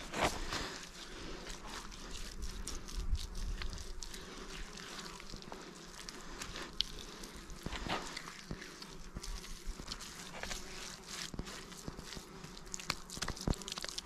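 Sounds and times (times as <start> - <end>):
grit scraping and clicking: 0.0 - 14.0
hands patting wet mud: 0.0 - 14.0.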